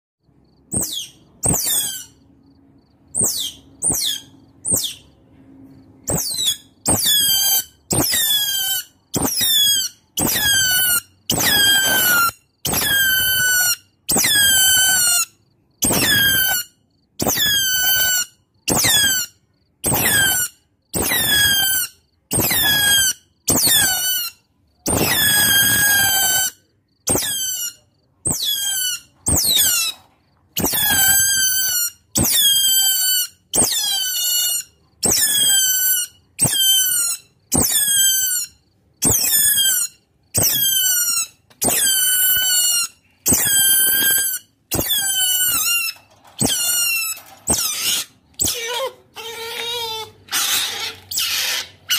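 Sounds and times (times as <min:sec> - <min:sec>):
otter squealing chirps: 0:00.7 - 0:02.2, 0:03.1 - 0:05.2, 0:06.0 - 0:51.9.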